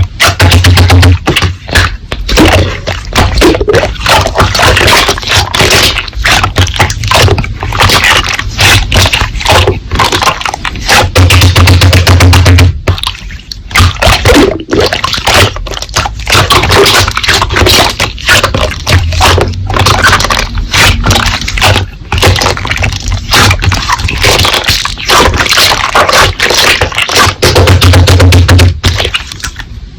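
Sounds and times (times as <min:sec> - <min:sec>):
slime squelching and popping: 0:00.0 - 0:29.9.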